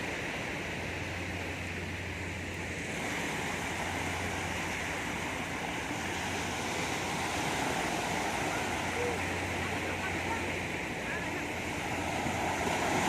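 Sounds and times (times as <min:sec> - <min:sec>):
sea surf rushing: 0:00.0 - 0:13.0.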